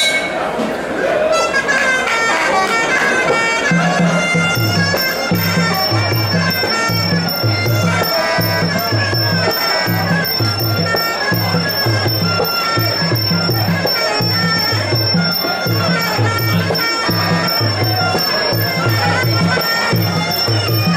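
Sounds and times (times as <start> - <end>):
two-pitched drums: 3.3 - 20.9
small hand cymbals ticking: 3.7 - 20.9.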